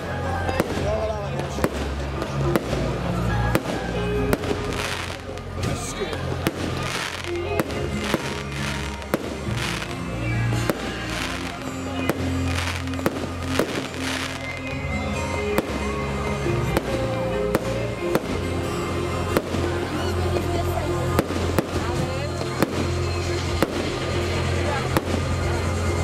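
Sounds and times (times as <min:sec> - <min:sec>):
fireworks bangs: 0:00.0 - 0:20.1, 0:21.1 - 0:25.7
fireworks crackle: 0:00.0 - 0:26.0
music with steady bass line: 0:00.0 - 0:26.0.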